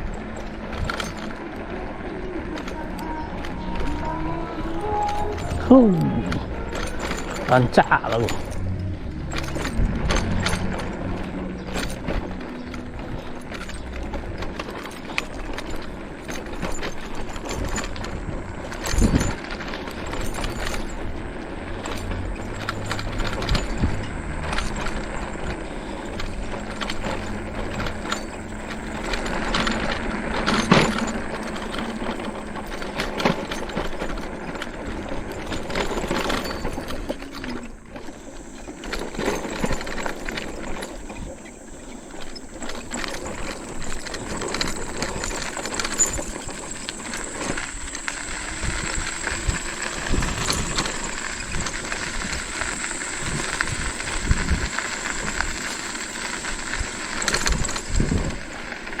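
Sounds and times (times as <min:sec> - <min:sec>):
bike frame rattling and knocking: 0:00.0 - 0:59.0.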